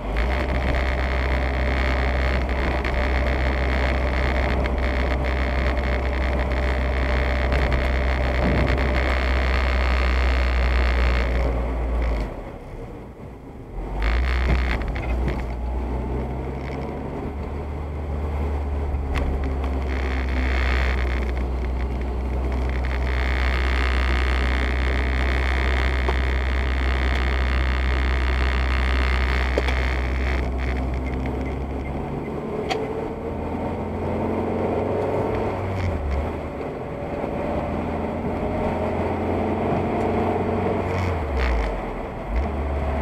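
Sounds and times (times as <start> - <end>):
engine and road rumble: 0.0 - 43.0.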